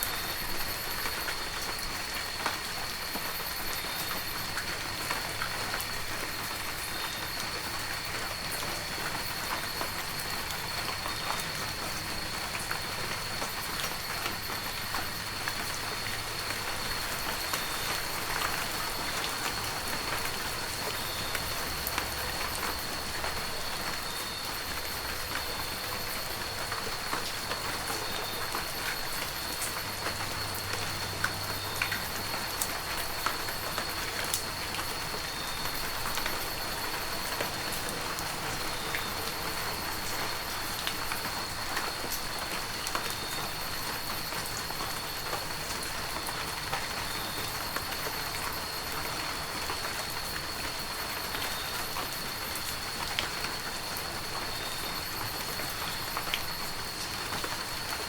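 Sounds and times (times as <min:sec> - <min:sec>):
heavy rain: 0:00.0 - 0:58.0
raindrops ticking: 0:00.1 - 0:58.0.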